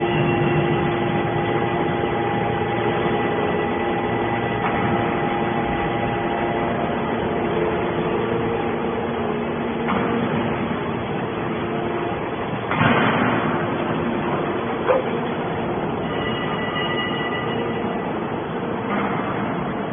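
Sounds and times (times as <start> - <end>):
scrap baler humming: 0.0 - 19.9.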